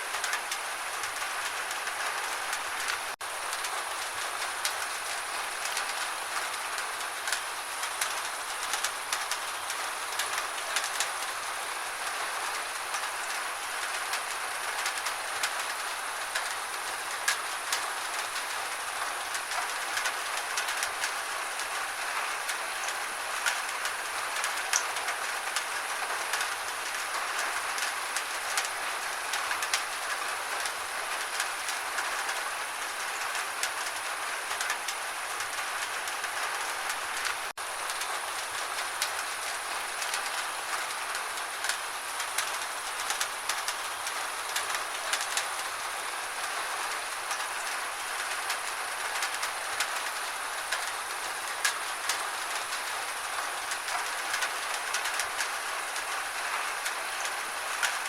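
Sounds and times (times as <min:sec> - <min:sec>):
gentle rain: 0:00.0 - 0:58.0
raindrop ticks: 0:00.1 - 0:11.4, 0:12.9 - 0:16.6, 0:17.2 - 0:58.0.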